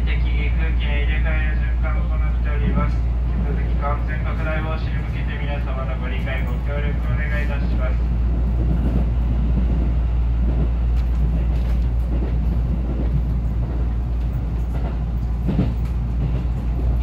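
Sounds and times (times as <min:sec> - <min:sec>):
train car low rumble: 0:00.0 - 0:17.0.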